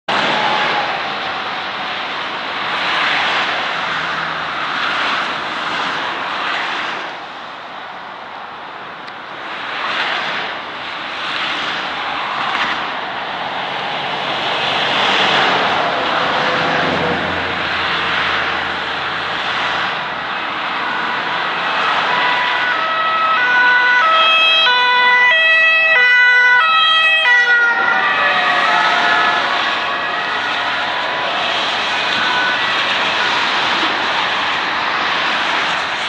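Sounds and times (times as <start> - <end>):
motorway traffic passing: 0.1 - 36.0.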